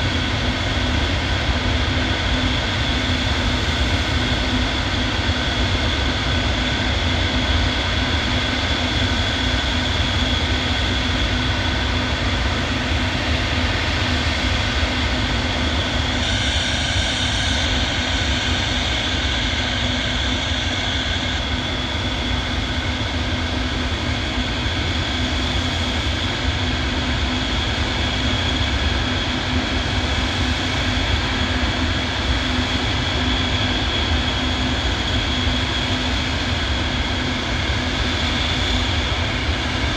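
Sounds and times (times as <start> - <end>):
aircraft engines running: 0.0 - 39.9
high engine whine: 0.0 - 39.9.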